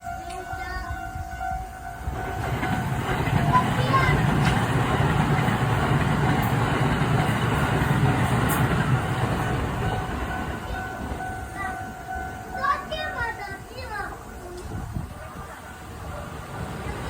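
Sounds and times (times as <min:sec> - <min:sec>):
crossing warning bell ringing: 0:00.0 - 0:14.4
train running: 0:00.0 - 0:17.0.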